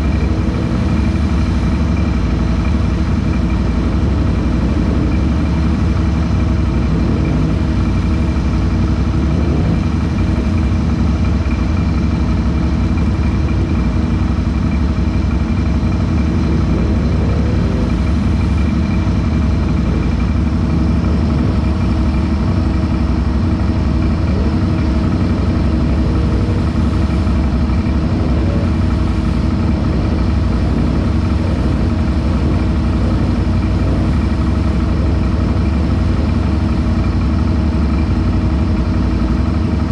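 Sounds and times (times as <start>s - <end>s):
atv engine idling: 0.0s - 39.9s.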